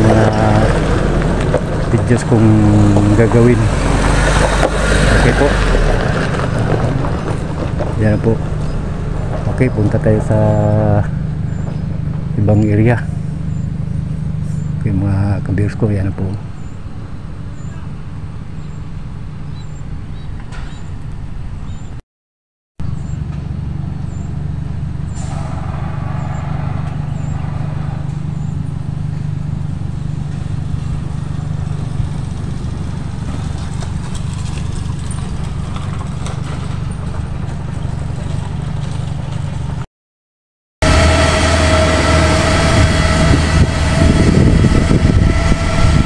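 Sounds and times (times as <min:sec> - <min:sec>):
vehicle engine rumble: 0:00.0 - 0:22.0, 0:22.8 - 0:39.9, 0:40.8 - 0:46.0.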